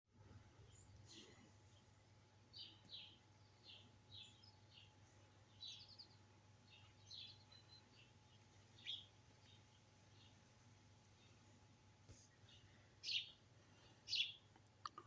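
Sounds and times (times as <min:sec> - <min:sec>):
low steady hum: 0:00.1 - 0:15.0
birds chirping: 0:00.6 - 0:14.6.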